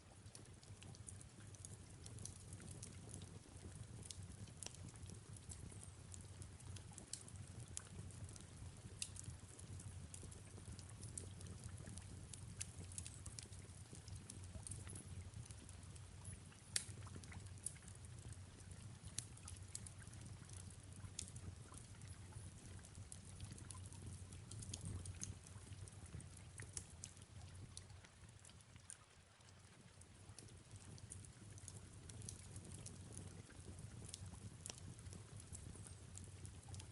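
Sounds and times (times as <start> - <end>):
soft rain hiss: 0.0 - 36.9
wood fire crackling: 0.2 - 28.6, 30.2 - 36.9.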